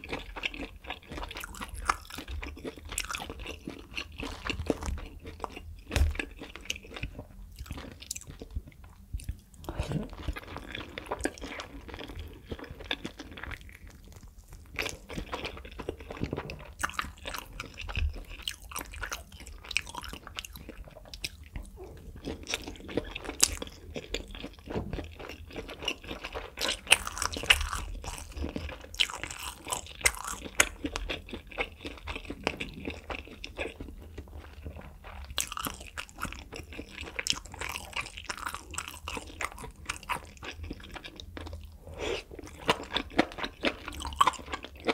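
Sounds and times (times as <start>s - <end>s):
crunchy food chewing: 0.0s - 44.9s.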